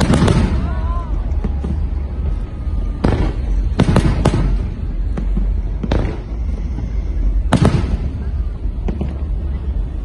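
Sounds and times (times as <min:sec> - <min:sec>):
fireworks bangs: 0:00.0 - 0:10.0
steady low rumble: 0:00.0 - 0:10.0.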